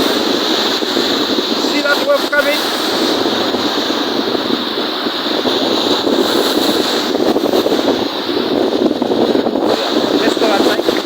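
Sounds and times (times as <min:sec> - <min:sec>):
waves washing on a lake: 0:00.0 - 0:11.0
wind buffeting microphone: 0:00.0 - 0:11.0.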